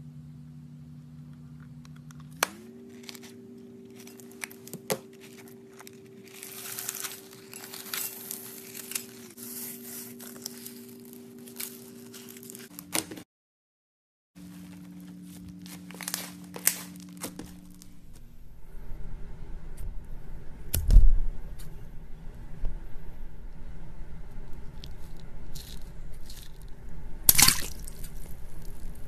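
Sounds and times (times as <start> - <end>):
steady low hum: 0.0 - 13.2, 14.4 - 29.0.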